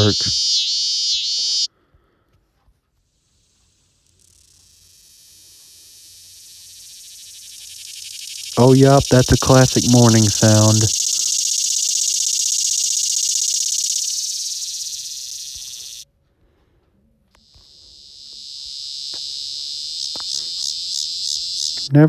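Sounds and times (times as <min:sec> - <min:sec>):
cicada buzzing: 0:00.0 - 0:01.7, 0:03.3 - 0:16.0, 0:17.4 - 0:22.0
pulsing cicada buzz: 0:00.0 - 0:01.7, 0:03.2 - 0:16.0, 0:17.4 - 0:22.0.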